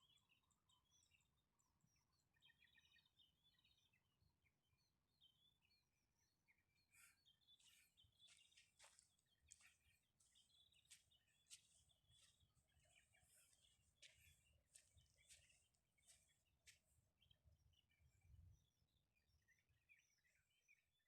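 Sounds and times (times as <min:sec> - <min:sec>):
birds chirping and trilling: 0:00.0 - 0:21.0.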